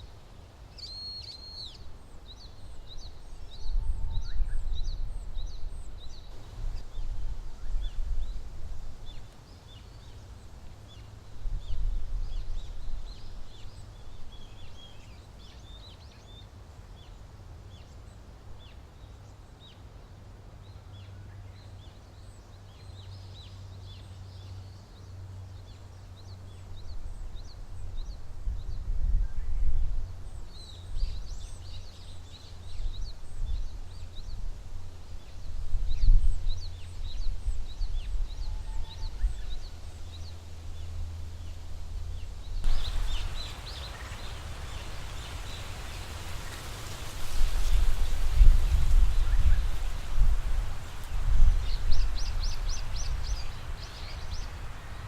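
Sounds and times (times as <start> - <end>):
small songbirds chirping: 0.0 - 55.0.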